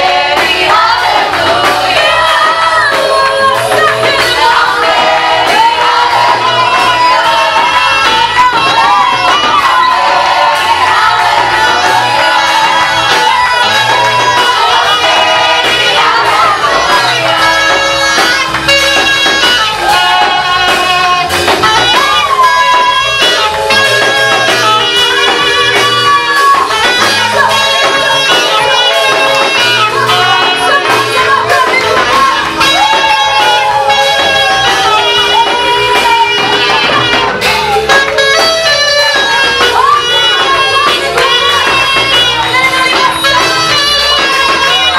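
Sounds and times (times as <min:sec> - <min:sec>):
instrumental accompaniment: 0:00.0 - 0:44.9.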